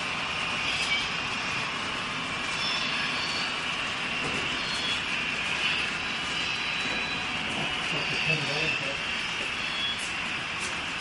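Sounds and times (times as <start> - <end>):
model train rumble and hiss: 0.0 - 11.0.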